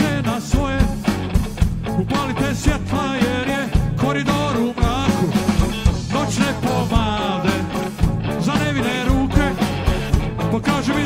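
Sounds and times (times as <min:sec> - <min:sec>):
live rock song: 0:00.0 - 0:11.0.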